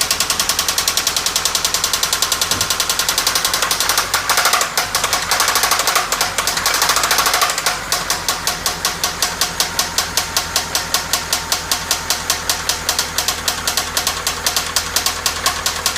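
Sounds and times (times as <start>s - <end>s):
engine knocking: 0.0s - 15.9s.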